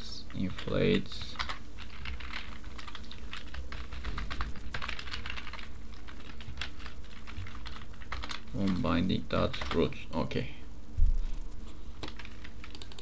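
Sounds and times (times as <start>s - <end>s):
keyboard typing: 0.5s - 9.9s, 11.6s - 13.0s.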